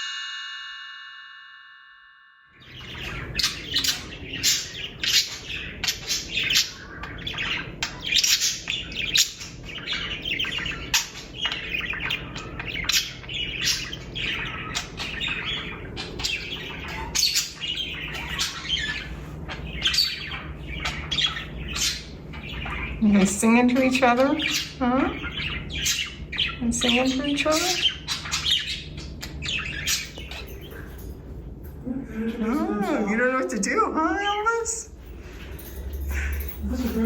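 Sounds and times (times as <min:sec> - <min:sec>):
budgerigars chirping: 0:02.6 - 0:31.3, 0:32.9 - 0:37.0.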